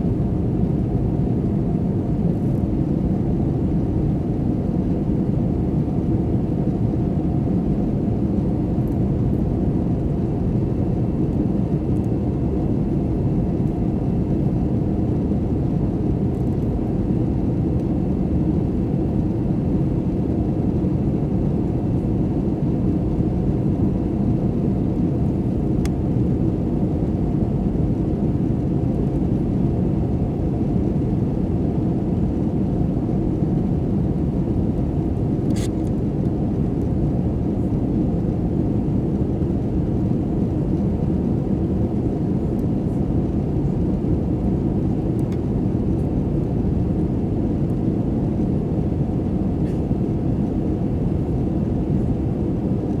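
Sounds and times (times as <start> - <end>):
jet engine roar in cabin: 0.0 - 53.0.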